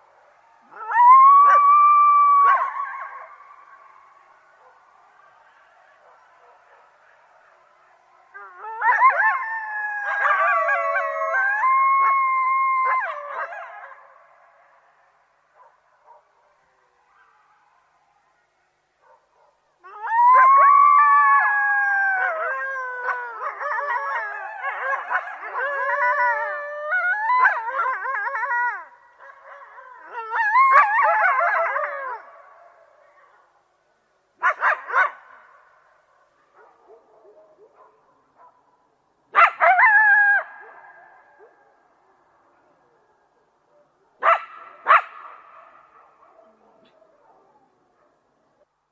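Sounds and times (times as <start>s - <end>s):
coyotes howling and yipping: 0.0s - 33.6s, 39.3s - 48.7s.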